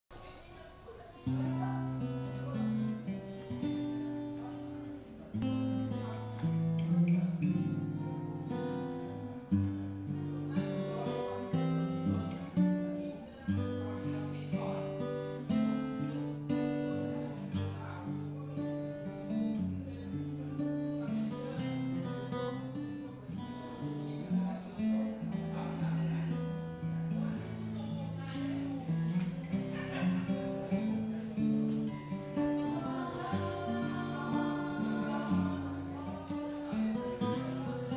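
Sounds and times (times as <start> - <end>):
fingerpicked acoustic guitar: 0.4 - 37.9.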